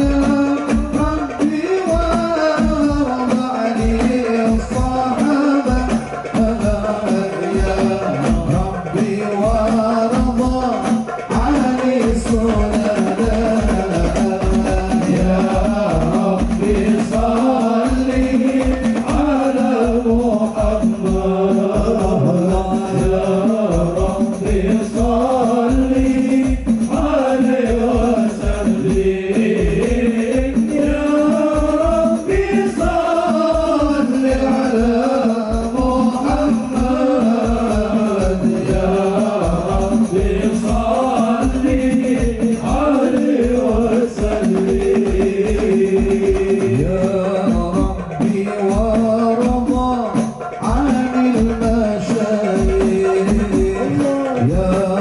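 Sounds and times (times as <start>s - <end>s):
fast steady drum beat: 0.0s - 55.0s
person singing devotional song: 0.0s - 55.0s.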